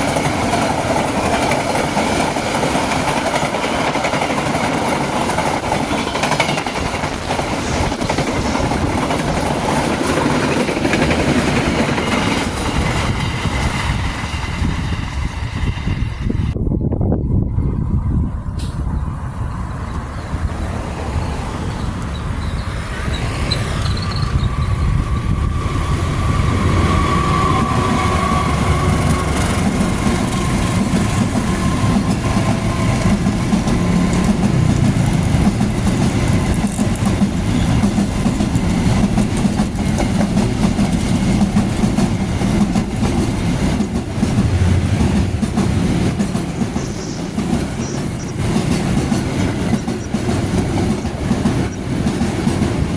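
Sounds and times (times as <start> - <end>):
wheels clattering over rail joints: 0.0 - 16.6, 26.2 - 52.9
train rumbling past: 0.0 - 52.9.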